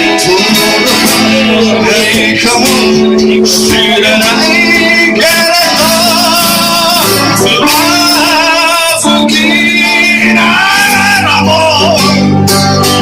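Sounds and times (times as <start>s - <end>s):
guitar accompaniment: 0.0s - 13.0s
man singing: 0.0s - 13.0s.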